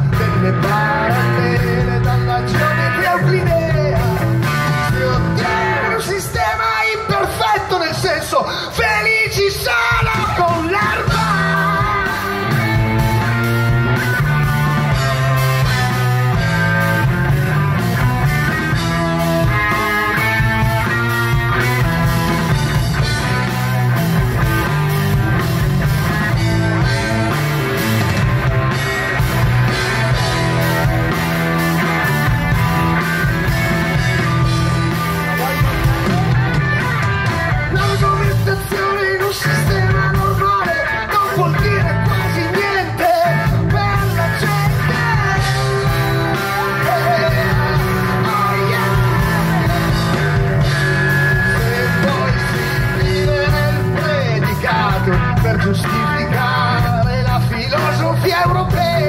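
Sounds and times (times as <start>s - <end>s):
electric bass line: 0.0s - 6.8s, 9.0s - 59.0s
drum kit: 0.0s - 59.0s
electric guitar: 0.0s - 59.0s.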